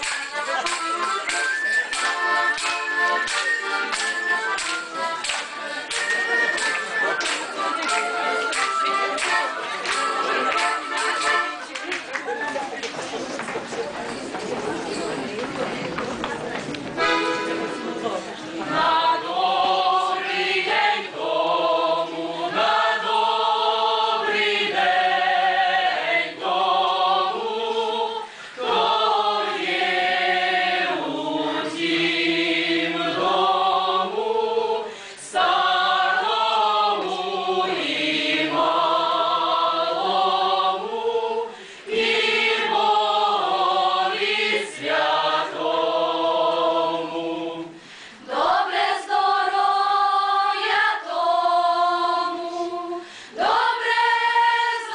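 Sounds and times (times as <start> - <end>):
mixed choir singing unaccompanied: 2.5 - 11.0, 17.0 - 54.9.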